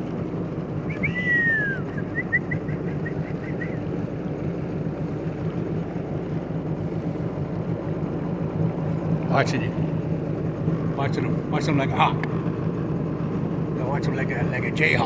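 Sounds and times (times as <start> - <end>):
jet ski engine idling: 0.0 - 15.0.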